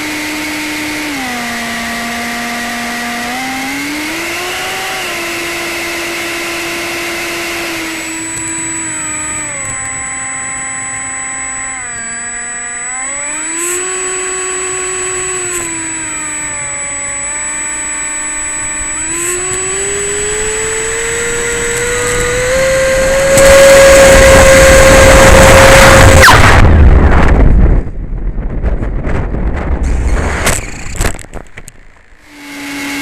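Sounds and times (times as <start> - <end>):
electric ducted fan whining: 0.0 - 33.0.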